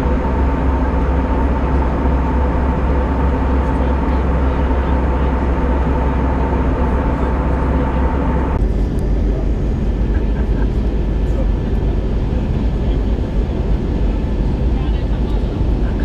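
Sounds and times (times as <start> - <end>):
airliner cabin rumble: 0.0 - 16.0
faint mid-pitched hum: 0.0 - 16.0.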